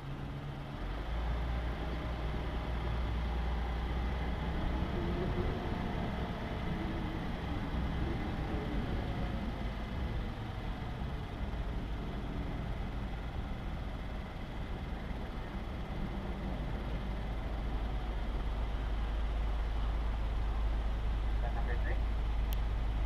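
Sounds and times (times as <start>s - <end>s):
car engine driving slowly: 0.0s - 23.0s
low rumble: 1.4s - 23.0s.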